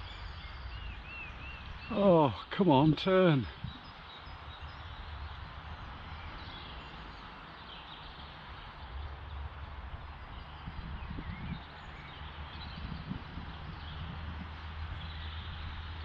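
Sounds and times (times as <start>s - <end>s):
wind rumbling on microphone: 0.0s - 2.2s, 3.4s - 16.0s.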